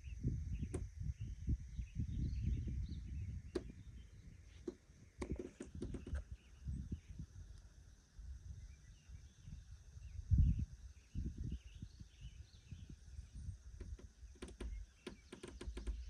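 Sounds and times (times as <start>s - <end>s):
faint bird chirps: 0.0s - 7.5s, 8.4s - 16.0s
gusty low wind rumble: 0.0s - 7.5s, 8.2s - 15.0s
high insect hum: 0.0s - 16.0s.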